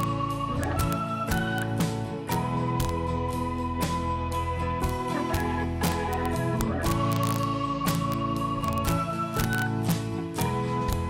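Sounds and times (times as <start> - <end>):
instrumental chords over a beat: 0.0 - 11.0.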